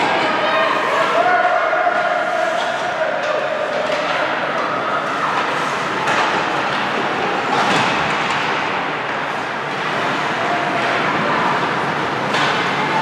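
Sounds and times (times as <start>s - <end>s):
crowd noise: 0.0s - 13.0s.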